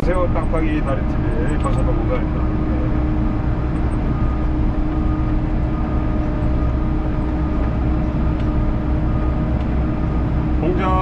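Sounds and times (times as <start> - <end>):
diesel engine droning: 0.0 - 11.0
faint steady hum: 0.0 - 11.0.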